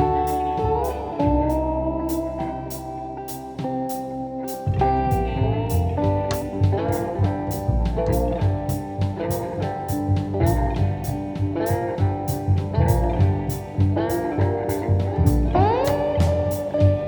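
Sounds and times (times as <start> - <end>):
guitar-led instrumental music: 0.0 - 17.0.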